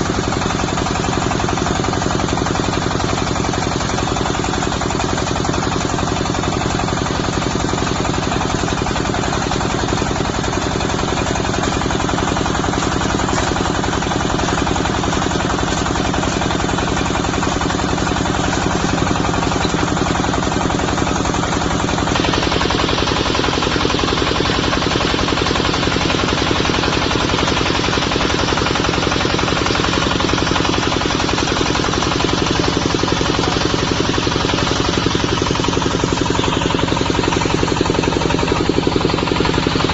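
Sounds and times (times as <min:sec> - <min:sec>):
drilling rig diesel engine knocking: 0:00.0 - 0:39.9.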